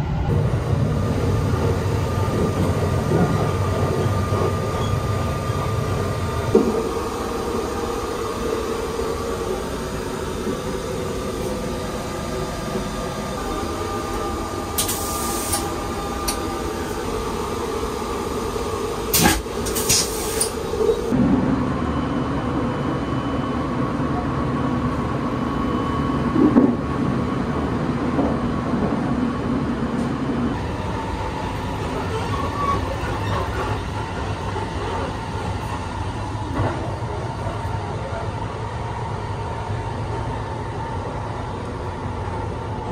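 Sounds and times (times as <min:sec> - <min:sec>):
train rumble and hum: 0:00.0 - 0:42.9.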